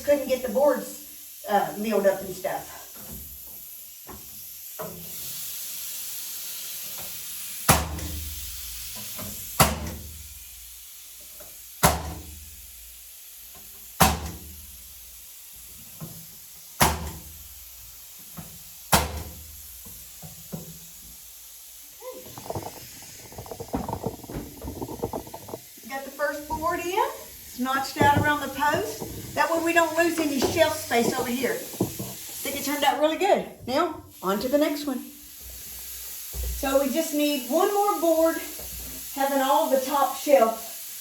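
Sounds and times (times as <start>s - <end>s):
steady air hiss: 0.0s - 33.2s, 34.1s - 41.0s.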